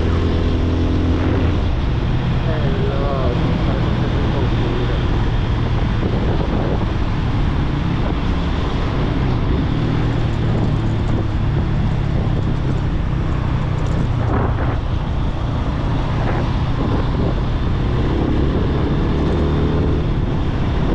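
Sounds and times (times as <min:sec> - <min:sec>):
motorcycle engine running: 0:00.0 - 0:20.9
wind noise on microphone: 0:00.0 - 0:20.9.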